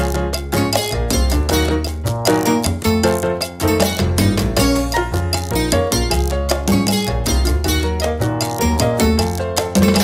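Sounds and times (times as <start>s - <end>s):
upbeat song with strong bass: 0.0s - 10.0s.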